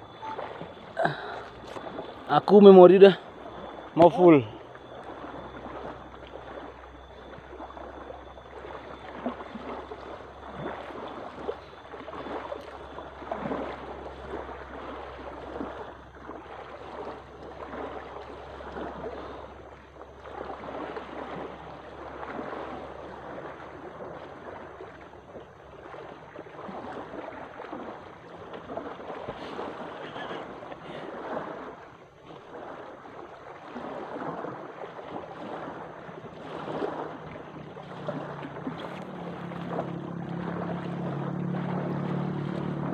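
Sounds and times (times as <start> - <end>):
small waves lapping on pebbles: 0.0 - 42.9
wind rumbling on microphone: 4.9 - 42.9.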